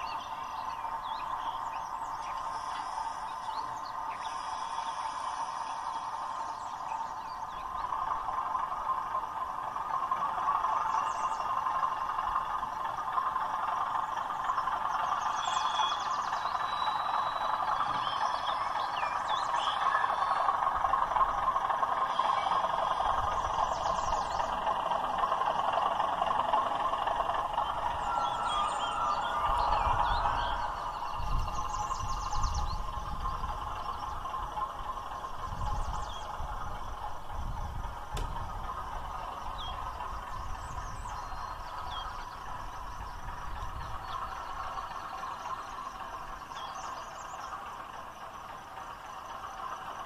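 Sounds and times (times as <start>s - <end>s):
model locomotive diesel engine sound: 0.0s - 50.0s.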